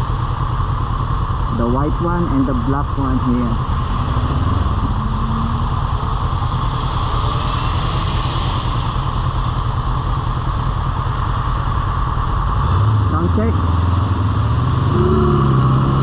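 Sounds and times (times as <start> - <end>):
motorcycle engine: 0.0 - 16.0
road noise: 0.0 - 16.0.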